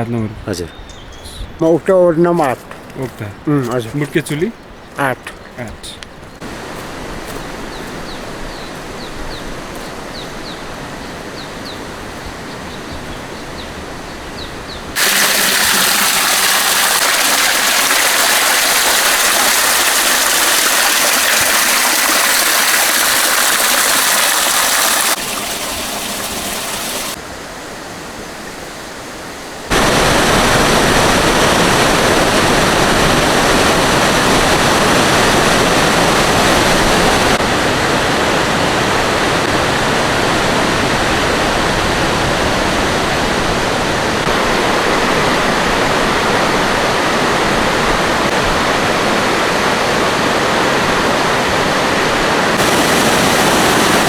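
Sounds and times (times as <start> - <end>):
rushing water: 1.6 - 54.0.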